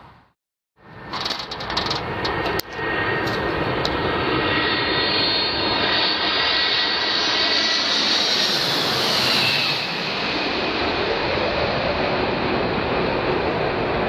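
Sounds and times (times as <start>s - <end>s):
jet engines roaring overhead: 0.8s - 14.0s.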